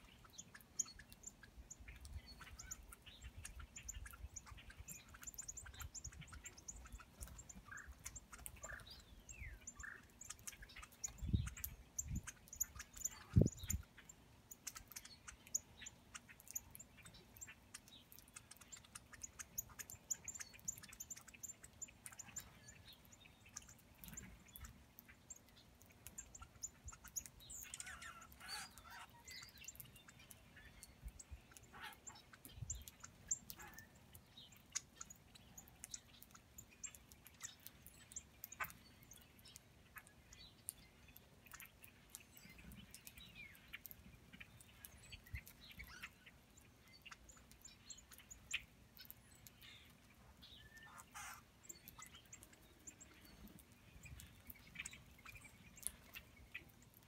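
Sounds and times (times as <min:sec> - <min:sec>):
lower bird calls: 0:00.0 - 0:57.0
songbirds chip calls: 0:00.0 - 0:57.0.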